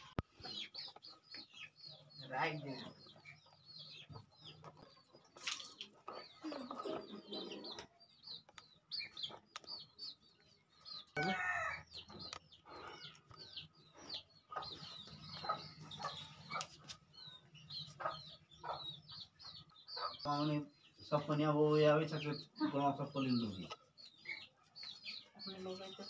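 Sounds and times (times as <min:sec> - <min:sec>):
chickens peeping and clucking: 0:00.0 - 0:26.0.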